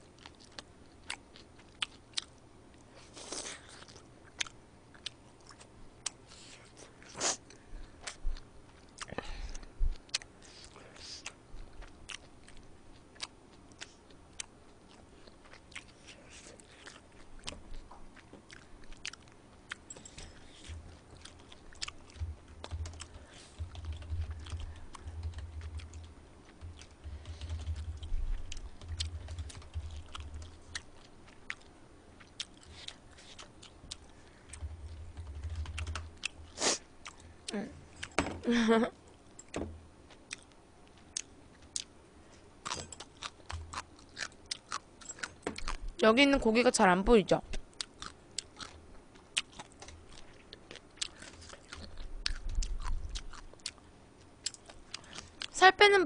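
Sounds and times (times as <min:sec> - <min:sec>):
wet chewing: 0:00.1 - 0:38.1, 0:39.1 - 0:46.1, 0:47.5 - 0:55.6.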